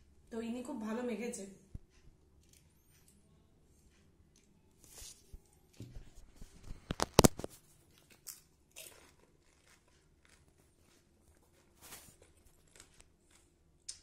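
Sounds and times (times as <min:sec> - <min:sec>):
soft crunchy chewing: 0:01.8 - 0:14.0.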